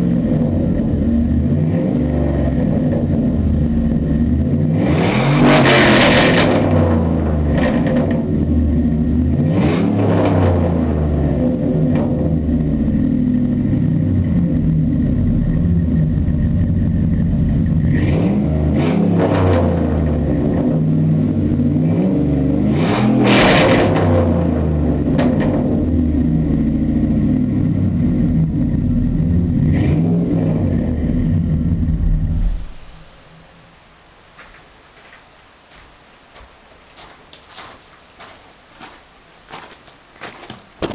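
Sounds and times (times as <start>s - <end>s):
v eight engine idling and revving: 0.0s - 33.1s.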